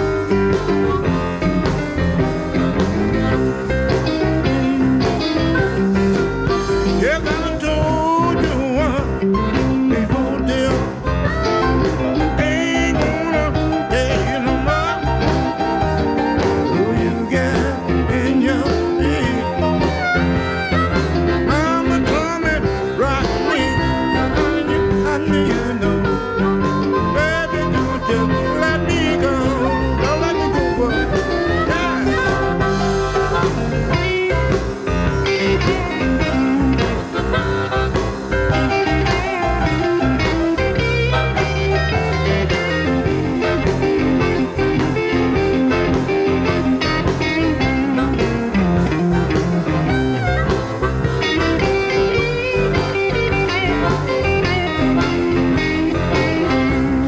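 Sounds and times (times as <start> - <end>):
blues band playing: 0.0 - 57.0
electric guitar lead: 0.0 - 57.0
harmonica: 0.0 - 57.0.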